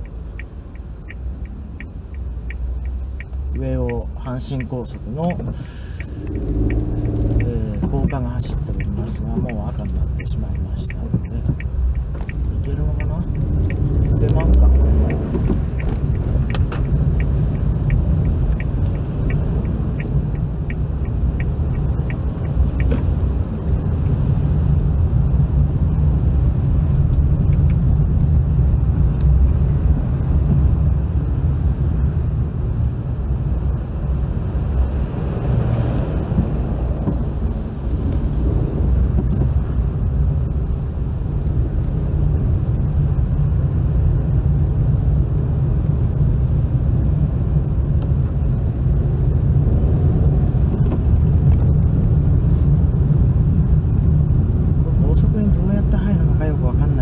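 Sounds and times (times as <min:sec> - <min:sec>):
engine and road rumble: 0:00.0 - 0:57.0
turn signal ticking: 0:00.0 - 0:57.0.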